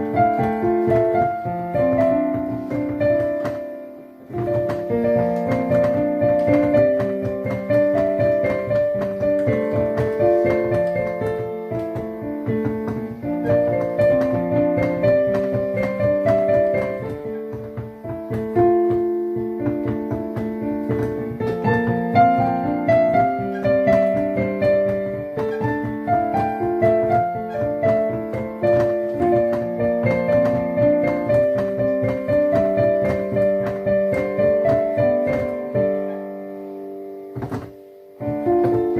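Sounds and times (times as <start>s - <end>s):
solo piano melody: 0.0s - 38.9s.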